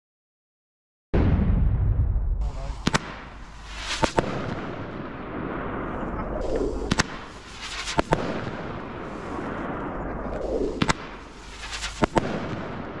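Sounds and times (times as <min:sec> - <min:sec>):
firework boom: 0:01.1 - 0:13.0
firework cracks: 0:01.2 - 0:13.0.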